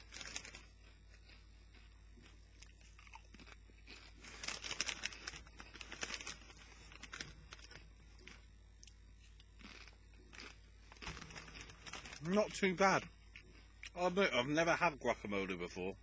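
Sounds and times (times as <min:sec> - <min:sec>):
tortilla chip crunching: 0:00.0 - 0:14.0.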